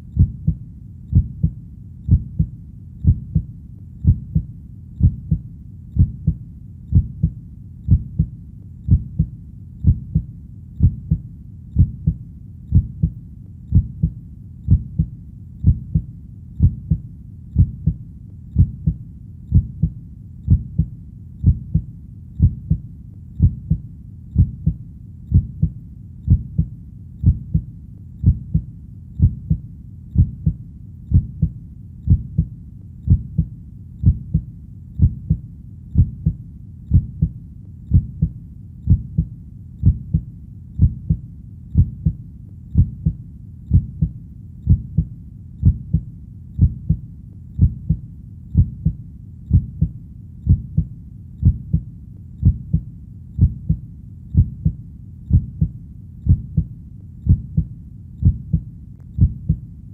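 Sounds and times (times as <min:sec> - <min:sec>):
heartbeat double thumps: 0:00.0 - 0:11.2, 0:11.8 - 0:47.0, 0:47.6 - 0:59.7
faint low rumble: 0:00.0 - 0:59.9.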